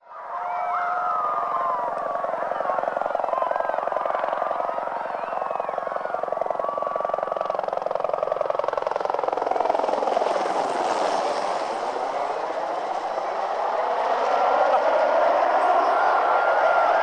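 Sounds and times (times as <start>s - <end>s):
helicopter rotor chopping: 0.7s - 17.0s.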